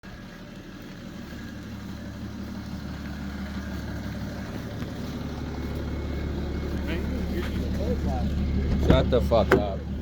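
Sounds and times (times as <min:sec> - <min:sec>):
diesel engine drone: 0:00.0 - 0:10.0
road noise: 0:00.0 - 0:10.0.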